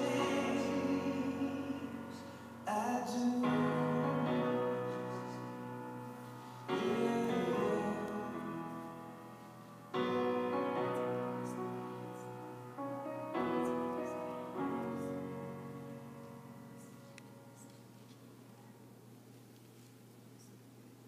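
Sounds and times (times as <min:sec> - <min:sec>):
slow piano chords: 0:00.0 - 0:19.1.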